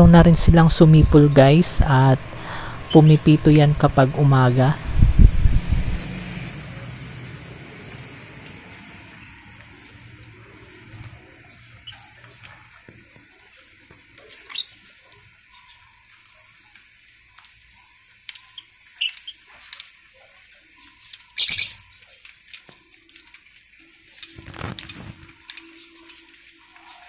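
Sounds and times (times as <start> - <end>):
birds clicking and scratching: 0.0 - 4.8, 5.5 - 27.0.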